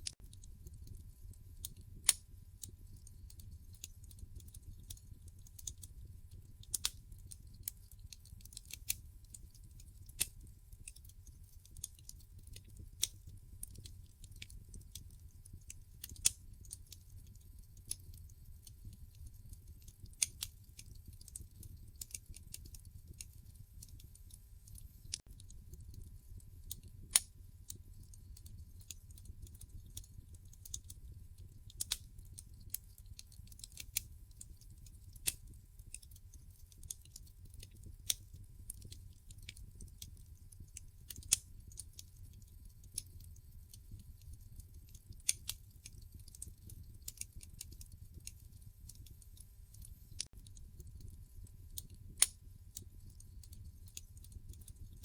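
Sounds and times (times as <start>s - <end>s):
low steady fire rumble: 0.0s - 55.0s
wood fire crackling and popping: 0.0s - 55.0s.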